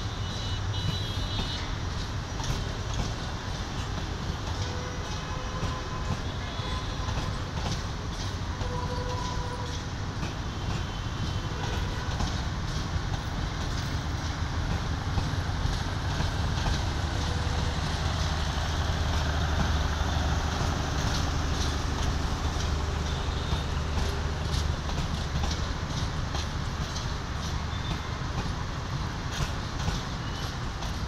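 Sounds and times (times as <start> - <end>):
train coaches rumbling: 0.0 - 31.0
wheels clacking over rail joints: 0.8 - 31.0.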